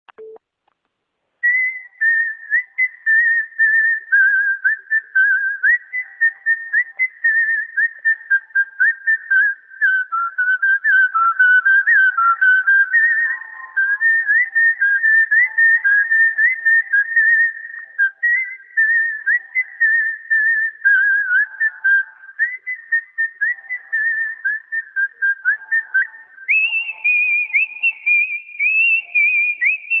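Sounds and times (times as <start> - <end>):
person whistling a tune: 1.4 - 30.0.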